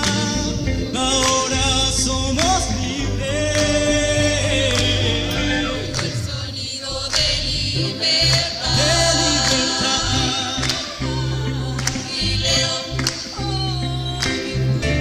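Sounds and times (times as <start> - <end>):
band with bass line: 0.0 - 15.0
choir singing: 0.0 - 15.0.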